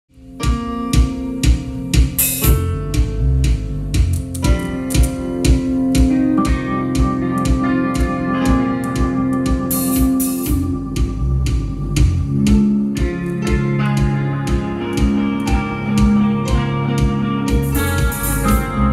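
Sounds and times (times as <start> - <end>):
drum beat: 0.2 - 18.9
electric guitar: 0.2 - 18.9
synthesizer chords: 0.2 - 18.9.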